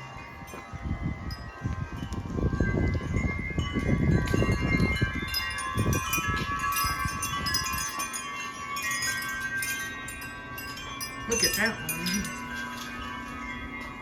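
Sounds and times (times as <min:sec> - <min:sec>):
wind chimes ringing: 0:00.0 - 0:14.0
wind rumble on microphone: 0:00.0 - 0:14.0.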